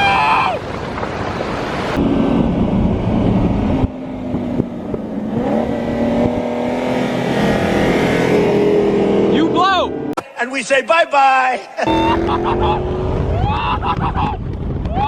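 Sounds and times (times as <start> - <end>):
car engines revving high: 0.6 - 10.2, 11.8 - 14.8.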